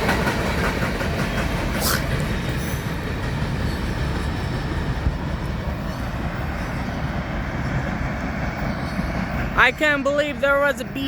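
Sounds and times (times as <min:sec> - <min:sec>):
freight train rolling on rails: 0:00.0 - 0:11.0.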